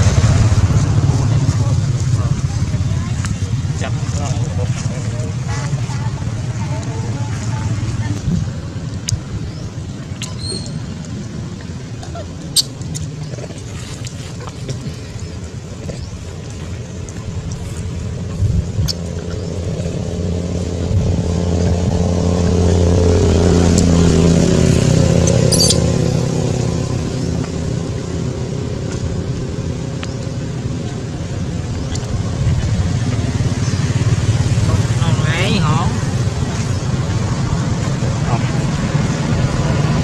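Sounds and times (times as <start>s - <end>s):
vehicle engine passing by: 0.0s - 11.4s, 17.6s - 40.0s.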